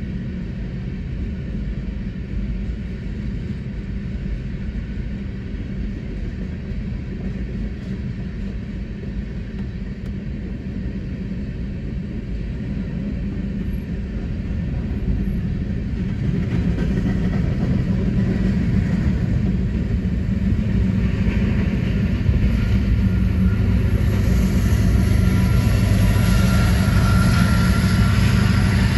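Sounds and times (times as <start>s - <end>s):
diesel locomotive engine running: 0.0s - 28.9s
train wheels rumbling on rails: 0.0s - 28.9s.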